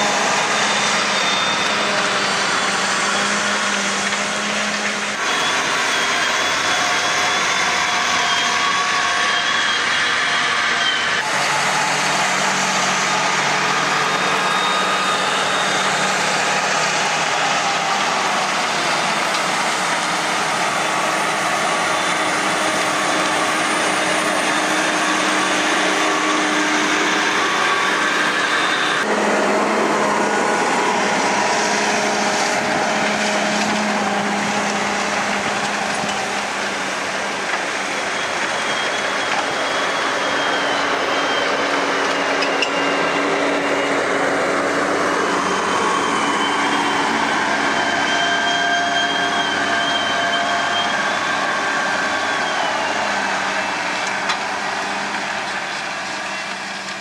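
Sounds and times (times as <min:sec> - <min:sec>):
tractor diesel engines under load: 0:00.0 - 0:57.0.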